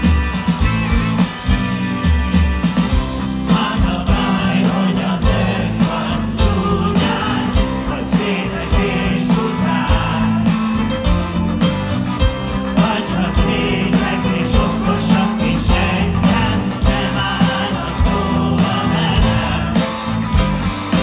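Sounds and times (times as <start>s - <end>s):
drum beat: 0.0s - 11.5s, 12.2s - 21.0s
electric guitar: 0.0s - 21.0s
keyboard: 0.0s - 21.0s.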